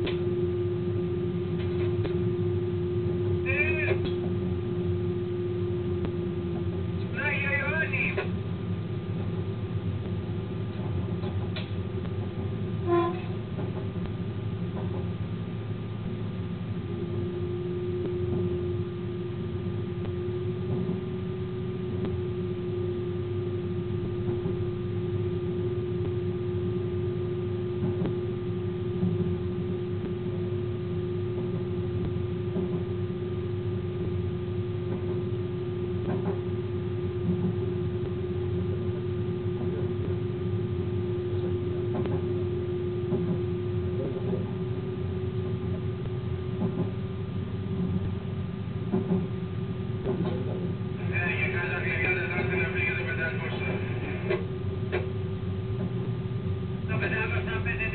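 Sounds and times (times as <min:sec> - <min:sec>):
locomotive humming tone: 0:00.0 - 0:57.9
train low rumble: 0:00.0 - 0:57.9.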